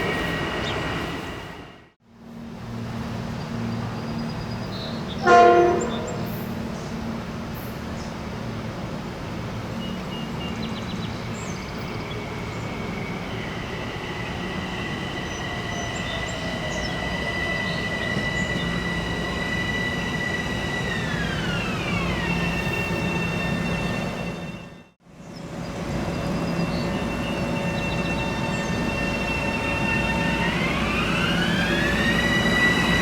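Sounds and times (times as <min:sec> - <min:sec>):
electric train rumbling by: 0:00.0 - 0:33.0.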